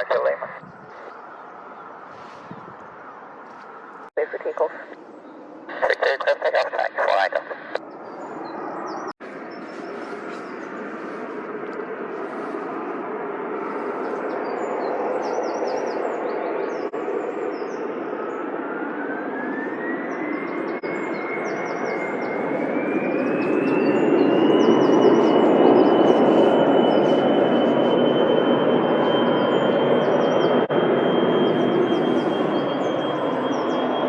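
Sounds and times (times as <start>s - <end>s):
birds chirping: 0.0s - 11.4s, 13.6s - 34.0s
jet engines spooling up: 5.7s - 16.2s, 16.9s - 34.0s.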